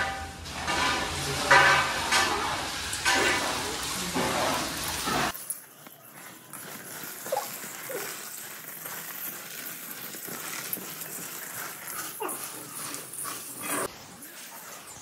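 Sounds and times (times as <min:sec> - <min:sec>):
dry noodles crackling in steel bowl: 0:00.6 - 0:15.0.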